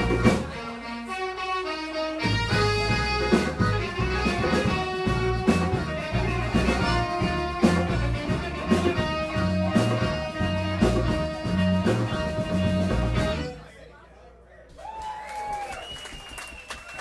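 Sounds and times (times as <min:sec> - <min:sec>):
bass line: 0:00.0 - 0:13.7
guitar: 0:00.0 - 0:13.7.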